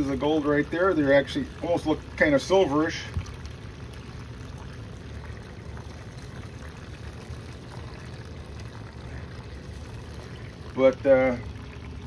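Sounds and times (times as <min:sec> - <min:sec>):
steady low hum: 0:00.0 - 0:12.0
water running over a table: 0:00.0 - 0:12.0.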